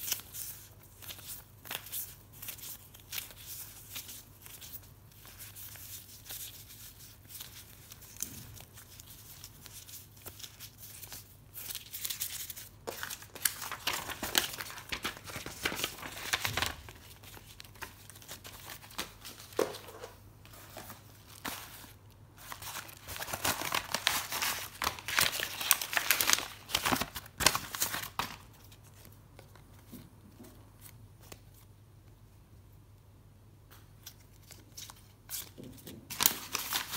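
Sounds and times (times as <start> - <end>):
packaging crinkling and tearing: 0.0 - 19.6, 20.8 - 29.1, 34.1 - 36.9.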